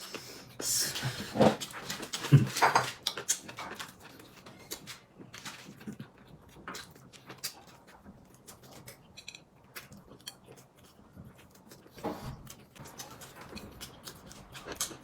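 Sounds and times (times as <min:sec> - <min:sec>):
chewing and mouth noises: 0:00.0 - 0:15.0.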